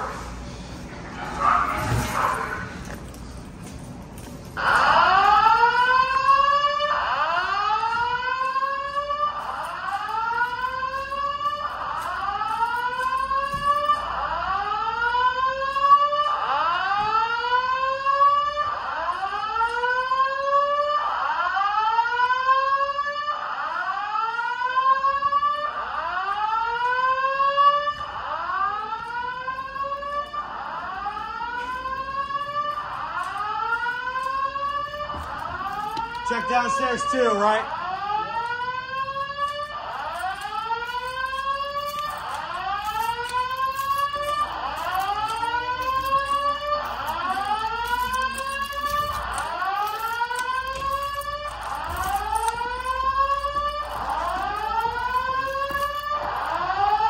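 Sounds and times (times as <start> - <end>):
fire alarm whoop tone: 4.6 - 57.0.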